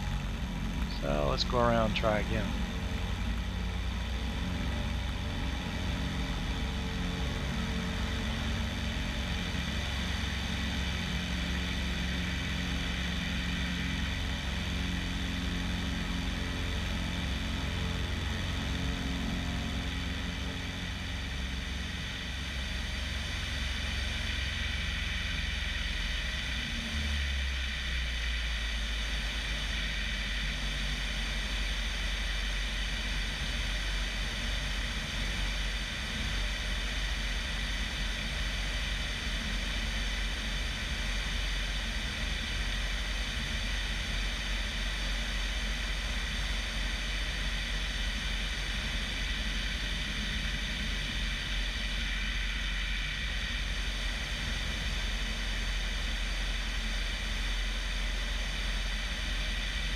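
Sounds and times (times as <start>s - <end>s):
propeller plane engine: 0.0s - 59.9s.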